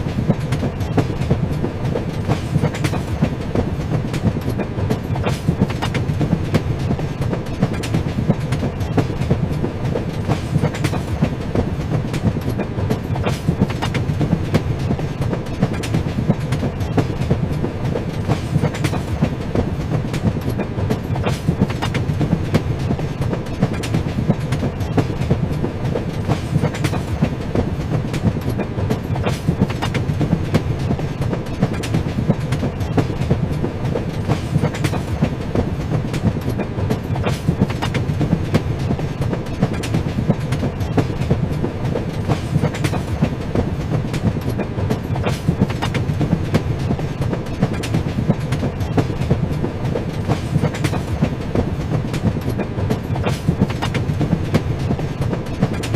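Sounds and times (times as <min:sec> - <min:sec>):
train rumbling: 0:00.0 - 0:55.9
wheels clacking over rails: 0:00.0 - 0:55.9.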